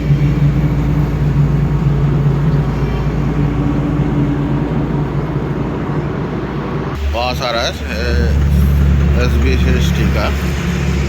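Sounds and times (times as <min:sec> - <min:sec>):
truck engine drone: 0:00.0 - 0:11.0
tyre and road noise: 0:00.0 - 0:11.0.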